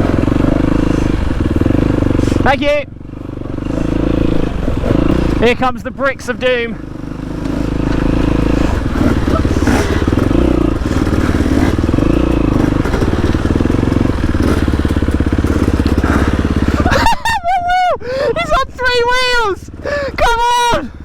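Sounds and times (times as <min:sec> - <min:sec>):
motorcycle engine running at low revs: 0:00.0 - 0:18.5, 0:19.6 - 0:20.2.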